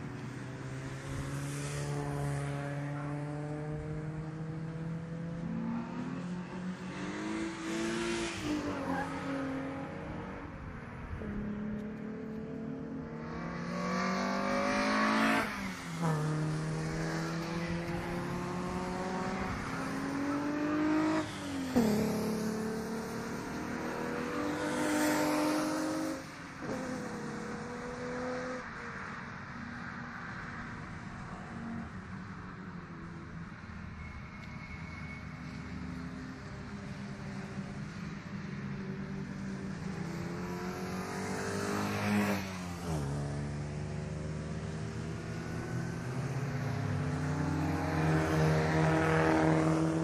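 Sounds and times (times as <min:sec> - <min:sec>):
race cars accelerating: 0:00.0 - 0:33.1, 0:35.4 - 0:50.0.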